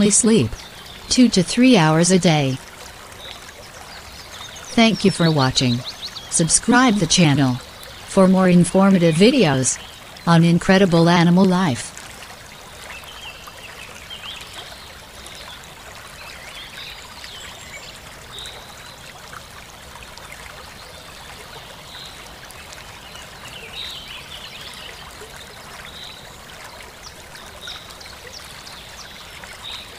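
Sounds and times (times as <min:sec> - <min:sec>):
running water trickling: 0:00.0 - 0:29.9.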